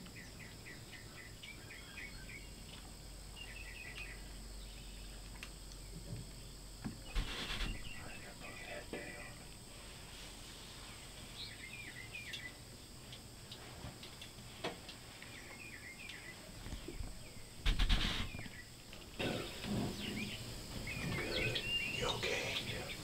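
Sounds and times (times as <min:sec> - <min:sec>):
small birds chirping: 0:00.0 - 0:09.4, 0:10.5 - 0:13.3, 0:14.9 - 0:23.0.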